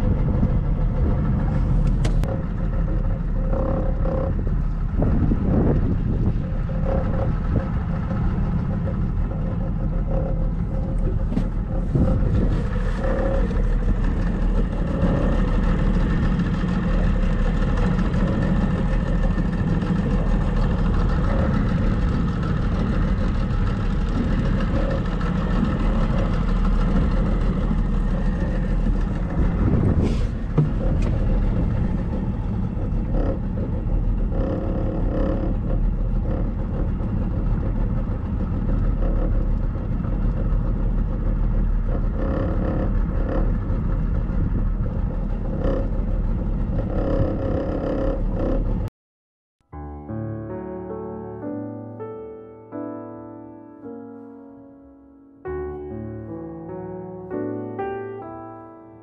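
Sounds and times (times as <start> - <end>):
boat engine running: 0.0 - 48.9, 49.7 - 58.7.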